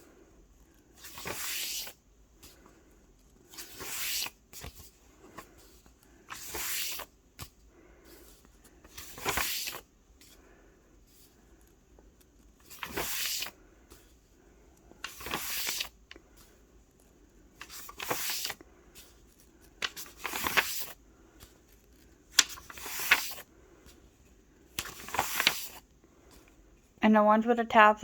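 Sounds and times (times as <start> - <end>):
book pages turning: 0.7 - 10.4, 11.0 - 26.6.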